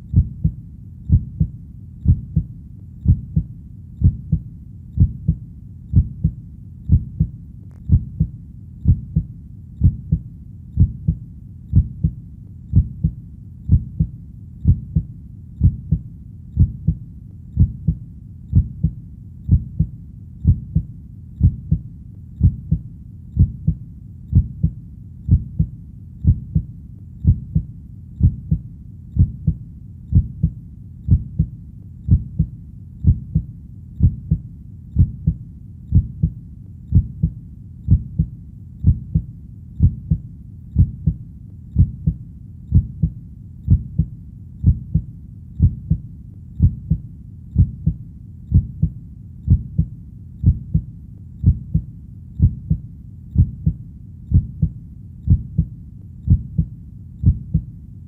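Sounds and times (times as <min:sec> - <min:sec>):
human heartbeat: 0:00.0 - 0:57.7.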